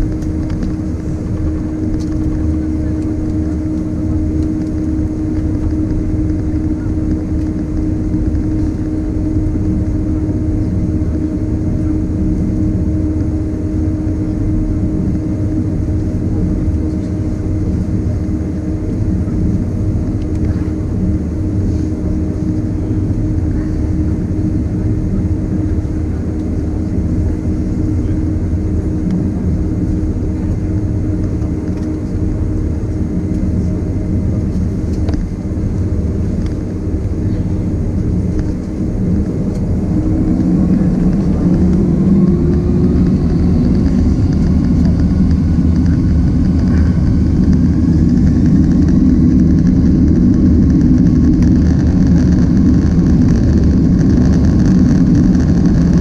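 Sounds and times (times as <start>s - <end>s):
airliner engines droning: 0.0s - 56.0s.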